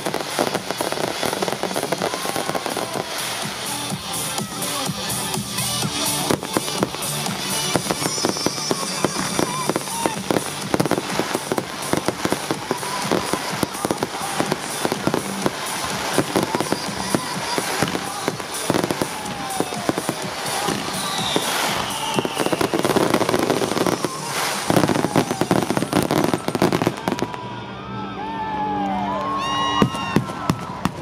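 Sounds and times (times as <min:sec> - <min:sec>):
falling fireworks whistles: 0:00.0 - 0:27.5
fireworks bangs and crackling: 0:00.0 - 0:27.6, 0:29.8 - 0:31.0.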